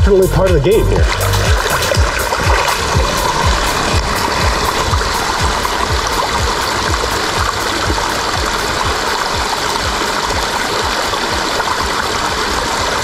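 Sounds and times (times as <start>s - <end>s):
brook running: 0.1s - 13.0s
water spilling into pool: 1.0s - 13.0s.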